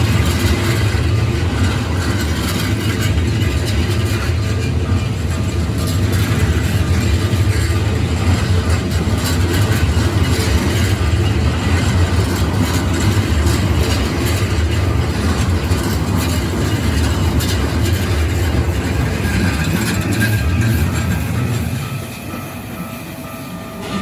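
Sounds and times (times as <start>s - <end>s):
wheels clicking over rail joints: 0.0s - 22.8s
train rumbling on rails: 0.0s - 24.0s.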